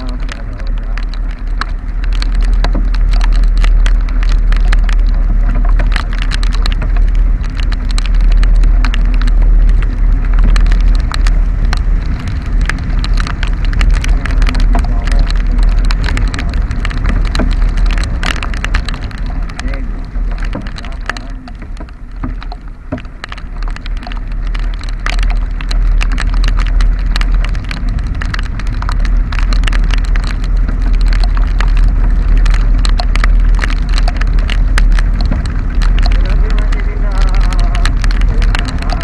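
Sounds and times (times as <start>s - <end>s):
motorcycle engine hum: 0.0s - 39.0s
raindrops tapping on microphone: 0.0s - 39.0s
wind and road rumble: 0.0s - 39.0s.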